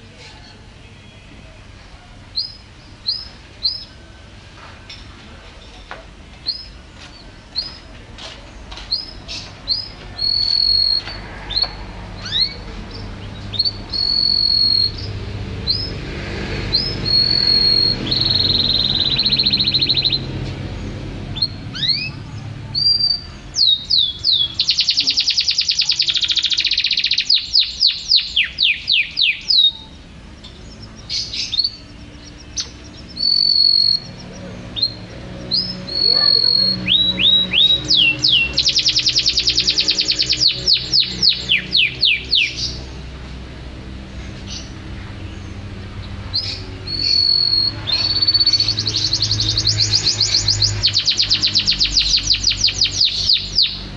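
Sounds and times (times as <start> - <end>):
canary singing: 0.0 - 53.9.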